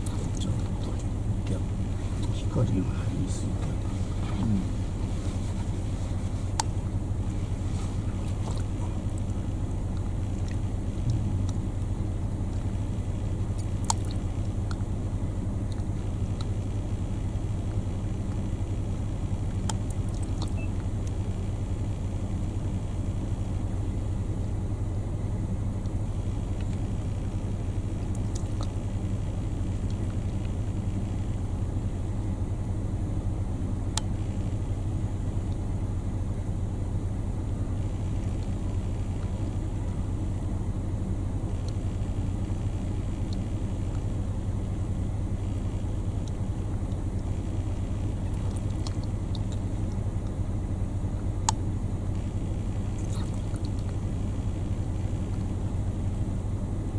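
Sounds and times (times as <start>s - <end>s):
engine rumbling: 0.0s - 56.9s.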